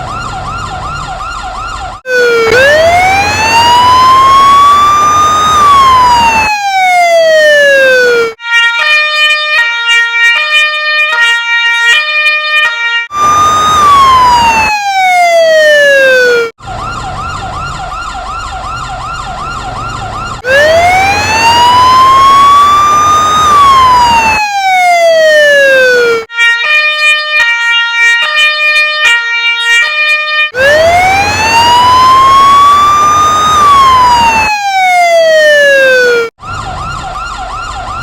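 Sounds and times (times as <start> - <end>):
cartoon fire engine siren: 0.0 - 38.0.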